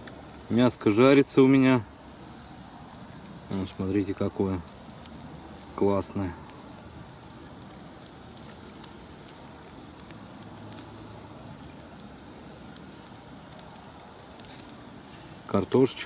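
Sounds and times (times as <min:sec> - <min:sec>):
fire crackling: 0:00.0 - 0:16.0
meat sizzling: 0:00.0 - 0:16.0.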